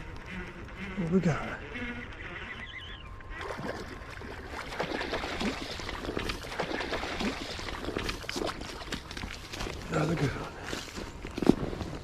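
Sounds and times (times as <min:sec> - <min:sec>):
creek water splashing: 0:00.0 - 0:11.1.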